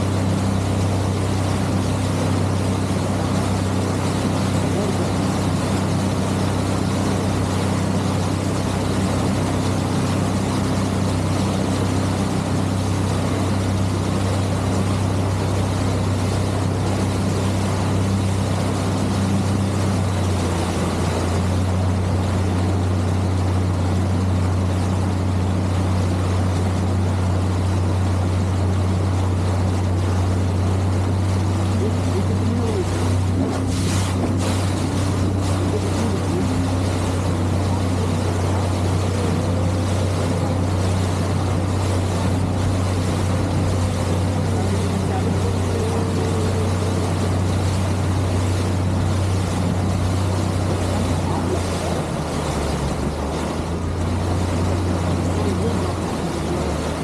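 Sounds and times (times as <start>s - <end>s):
constant rushing noise: 0.0s - 57.0s
engine humming: 0.0s - 57.0s.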